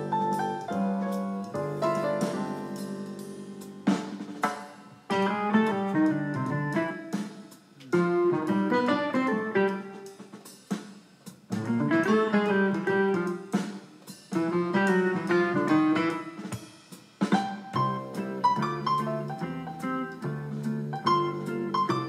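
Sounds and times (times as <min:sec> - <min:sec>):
guitar-led instrumental music: 0:00.0 - 0:22.0.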